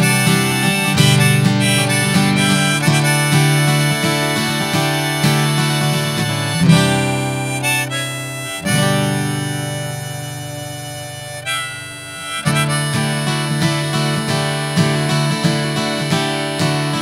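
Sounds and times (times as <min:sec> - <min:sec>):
acoustic guitar strumming: 0:00.0 - 0:17.0
harmonica chords: 0:00.0 - 0:17.0.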